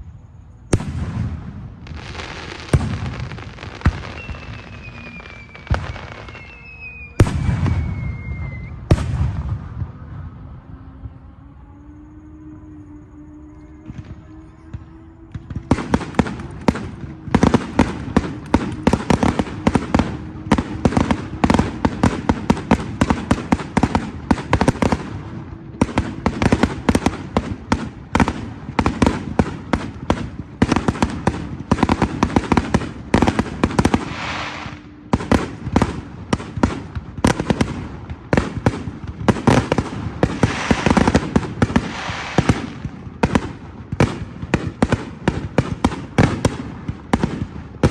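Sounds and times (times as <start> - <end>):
fireworks bangs and crackles: 0.0 - 11.3, 13.3 - 47.9.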